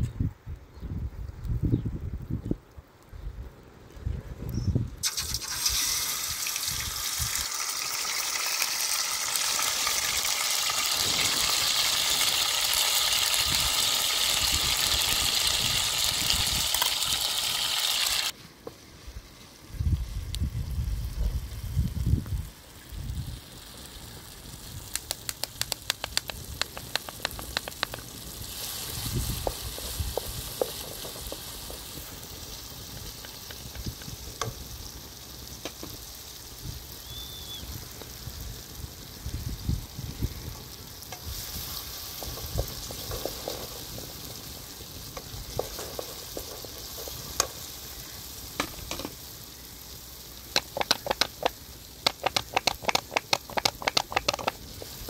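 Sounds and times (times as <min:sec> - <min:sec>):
food sizzling as it fries: 0:05.0 - 0:18.4, 0:19.7 - 0:55.0.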